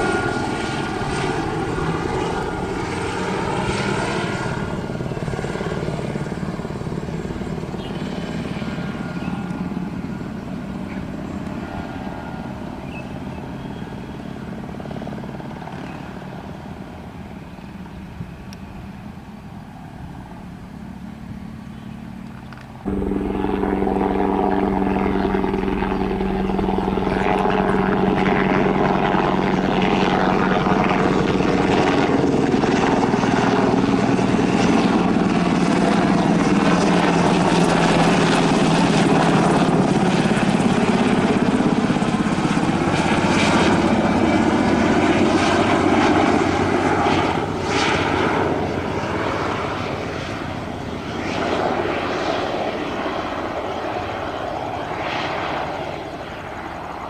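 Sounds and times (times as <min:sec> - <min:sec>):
helicopter flying overhead: 0:00.0 - 0:57.0.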